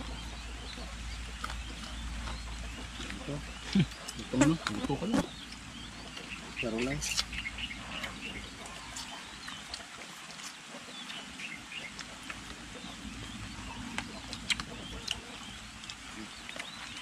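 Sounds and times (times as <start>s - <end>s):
bird chirps: 0.0s - 9.8s, 10.4s - 17.0s
low background hum: 0.0s - 17.0s
clicks from people eating: 0.7s - 12.6s, 13.9s - 17.0s.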